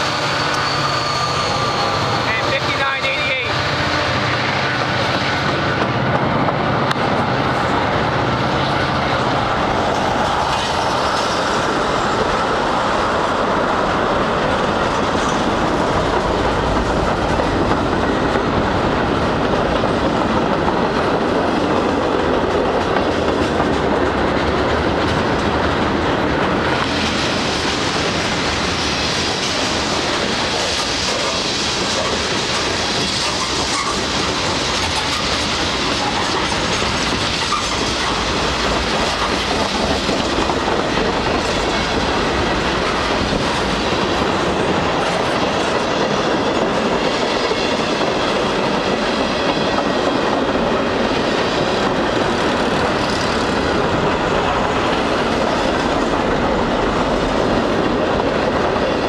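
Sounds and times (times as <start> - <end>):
freight train rumbling past: 0.0 - 59.0
wheels clacking over rails: 9.3 - 59.0.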